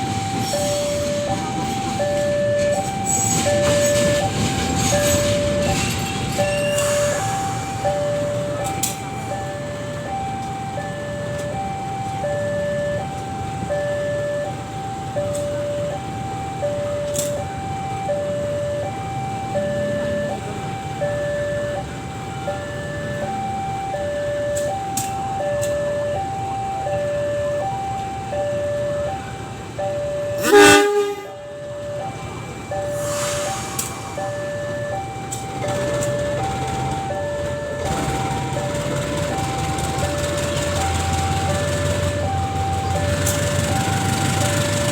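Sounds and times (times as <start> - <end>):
rumble of rail traffic: 0.0 - 44.9
two-tone railway warning alarm: 0.0 - 44.9.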